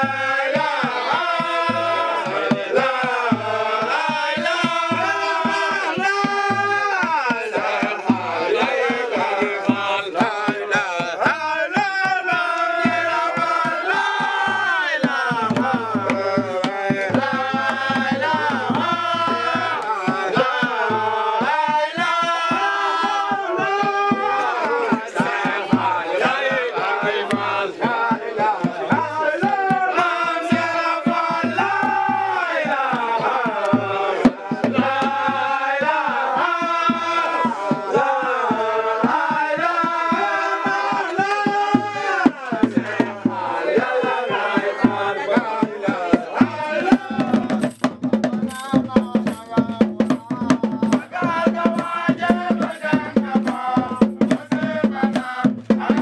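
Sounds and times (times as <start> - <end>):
chant-style singing: 0.0 - 56.0
percussion: 0.0 - 56.0
rapid hand-drum strokes: 0.0 - 56.0.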